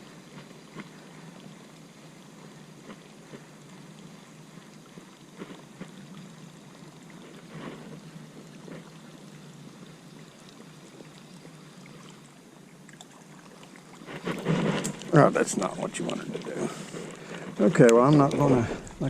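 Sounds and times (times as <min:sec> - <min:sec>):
lake water lapping: 0:00.0 - 0:19.0.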